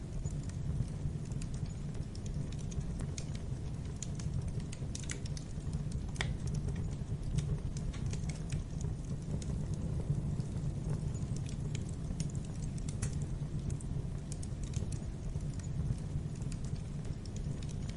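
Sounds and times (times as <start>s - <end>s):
fire crackling and popping: 0.0s - 17.9s
low rumble of flames: 0.0s - 17.9s.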